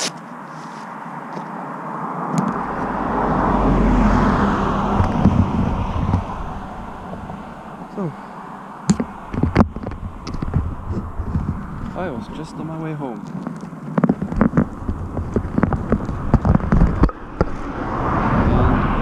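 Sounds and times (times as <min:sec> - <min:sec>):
road vehicle passing by: 0:00.9 - 0:13.9, 0:14.6 - 0:19.0
low rumble: 0:02.4 - 0:13.4, 0:14.2 - 0:19.0.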